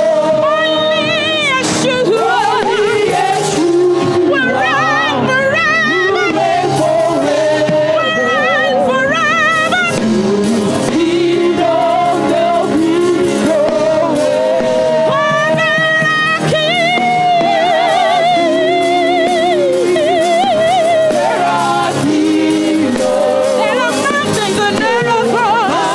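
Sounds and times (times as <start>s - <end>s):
person singing with vibrato: 0.0s - 25.9s
sustained instrumental accompaniment: 0.0s - 25.9s.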